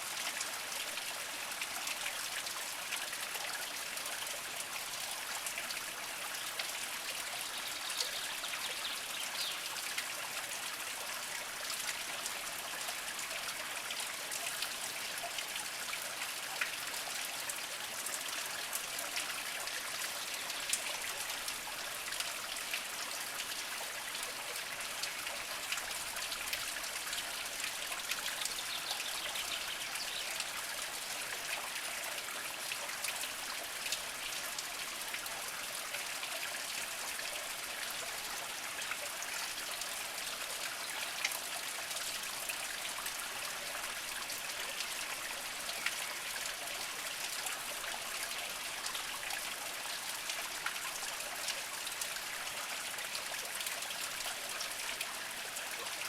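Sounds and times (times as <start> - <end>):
spring water trickling over rocks: 0.0 - 56.0
water drips and splashes: 0.0 - 56.0.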